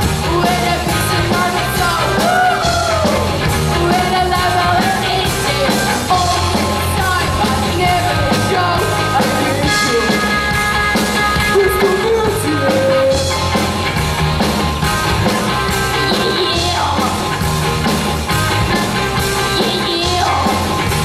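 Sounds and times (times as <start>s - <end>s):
lead singer: 0.0s - 13.6s, 15.2s - 17.5s, 18.4s - 21.0s
rock band playing live: 0.0s - 21.0s.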